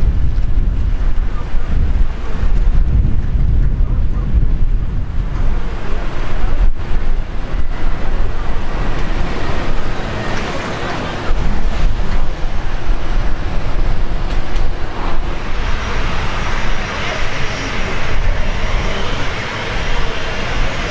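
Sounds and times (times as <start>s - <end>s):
car road noise: 0.0s - 20.9s
wind buffeting car: 0.0s - 20.9s.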